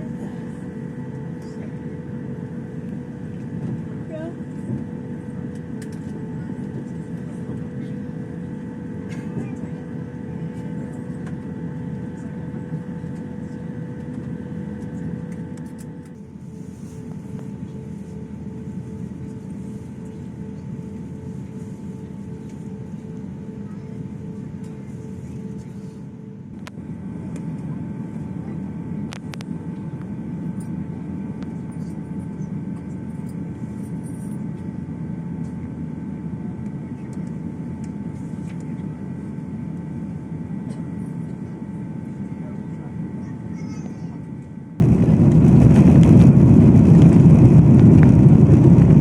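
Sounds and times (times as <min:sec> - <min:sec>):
airliner cabin engine rumble: 0:00.0 - 0:49.0.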